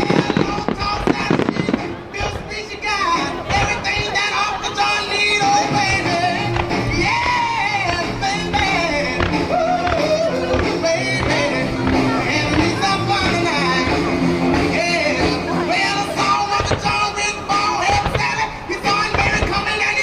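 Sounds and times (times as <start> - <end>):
backing instruments: 0.0 - 20.0
person singing: 0.0 - 20.0.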